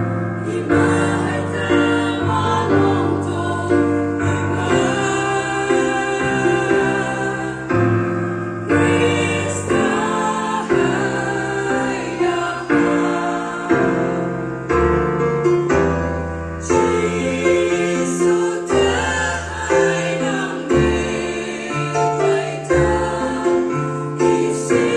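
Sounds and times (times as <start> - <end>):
keyboard accompaniment: 0.0 - 24.9
women singing gospel in harmony: 0.4 - 14.3, 16.7 - 24.9.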